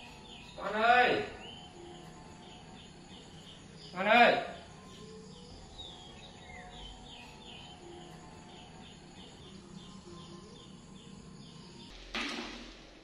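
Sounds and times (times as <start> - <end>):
bird chirping: 0.0 - 12.0
faint outdoor background: 0.0 - 13.0.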